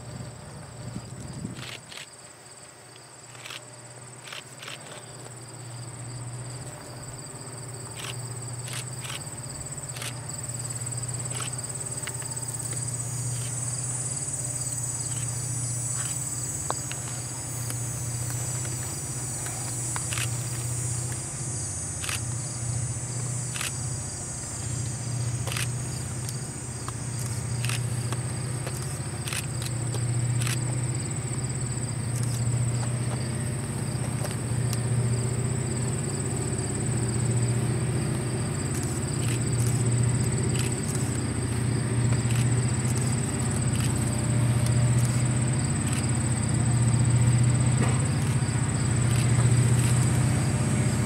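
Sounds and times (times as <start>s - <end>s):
insects buzzing: 0.0s - 51.0s
locomotive engine drone: 0.0s - 51.0s.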